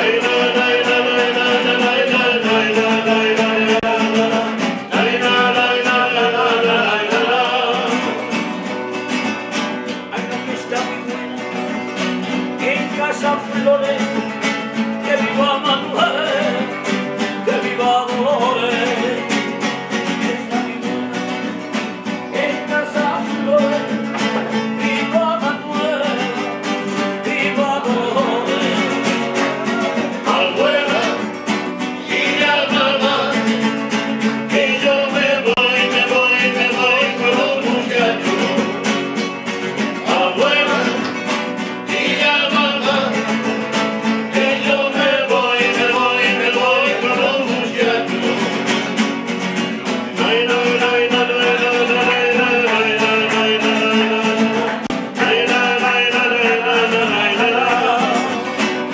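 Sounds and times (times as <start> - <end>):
acoustic guitars strumming: 0.0 - 58.9.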